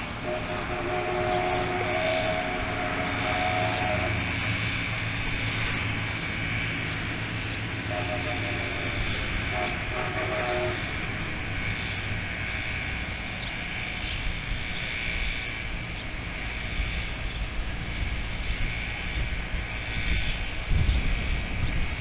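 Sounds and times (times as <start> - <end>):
steam locomotive hissing: 0.0 - 22.0
thin high whine: 0.0 - 22.0.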